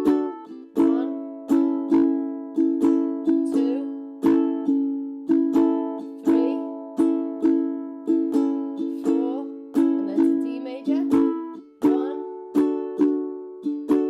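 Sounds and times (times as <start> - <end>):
ukulele strumming: 0.0 - 14.0.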